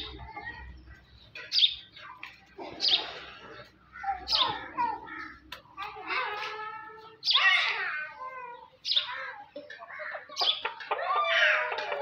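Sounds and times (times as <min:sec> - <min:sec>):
chickens clucking: 0:00.0 - 0:07.4, 0:08.2 - 0:12.0
chickens squawking: 0:00.0 - 0:12.0.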